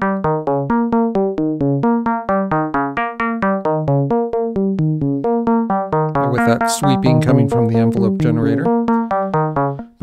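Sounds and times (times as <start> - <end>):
repeating synthesizer notes: 0.0 - 10.0.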